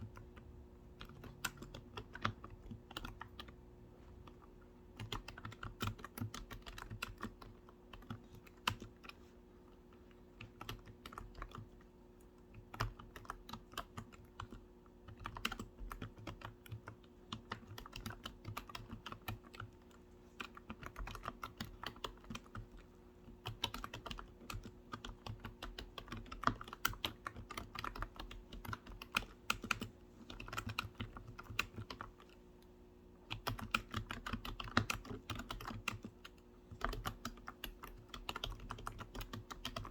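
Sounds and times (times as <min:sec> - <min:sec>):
typing on computer keyboard: 0:00.0 - 0:03.6, 0:04.2 - 0:32.4, 0:33.2 - 0:39.9.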